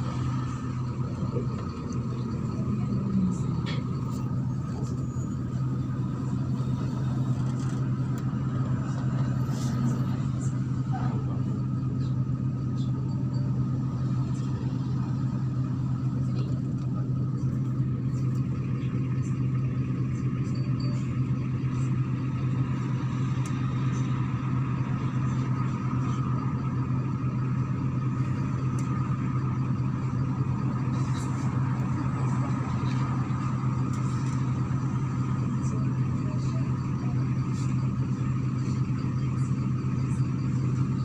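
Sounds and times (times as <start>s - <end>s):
bus engine drone: 0.0s - 41.0s
faint steady whine: 0.0s - 41.0s.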